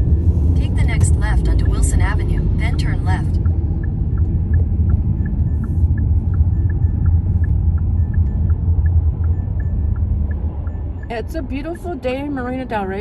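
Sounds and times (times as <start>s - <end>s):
car driving rumble inside cabin: 0.0s - 13.0s
turn signal ticking: 0.0s - 13.0s.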